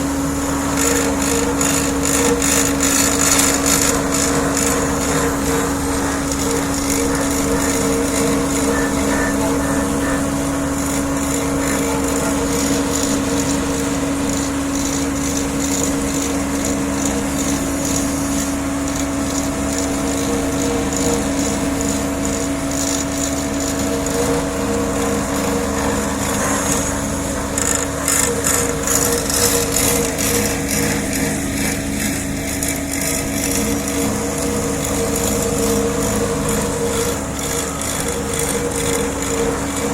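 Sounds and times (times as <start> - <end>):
high whine: 0.0 - 39.9
paving machine engine hum: 0.0 - 39.9.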